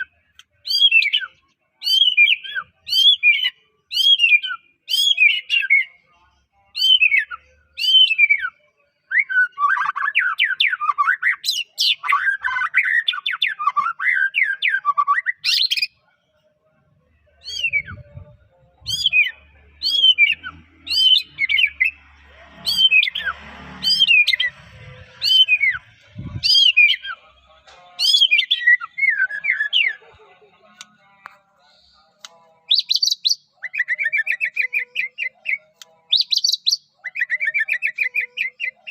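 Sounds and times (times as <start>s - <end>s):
songbird whistling and warbling: 0.0s - 6.0s, 6.7s - 16.0s, 17.4s - 27.2s, 28.0s - 30.1s, 32.7s - 38.9s.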